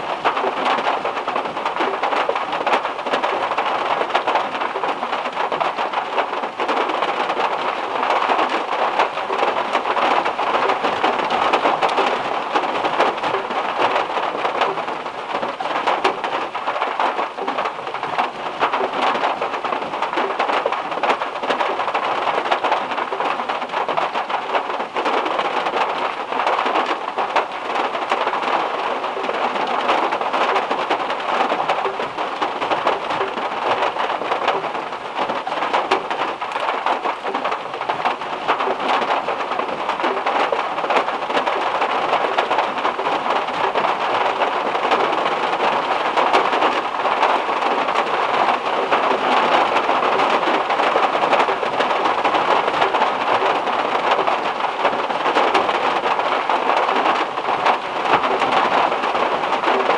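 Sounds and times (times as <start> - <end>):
heavy rain on metal car roof: 0.0 - 59.9.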